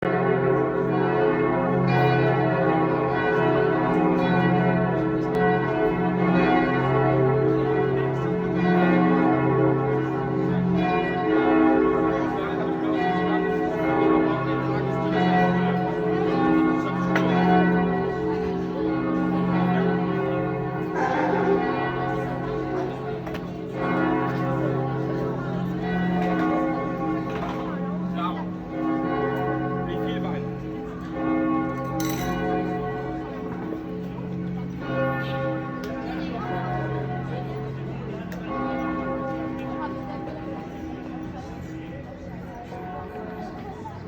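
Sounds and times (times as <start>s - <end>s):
church bells pealing: 0.0s - 44.0s.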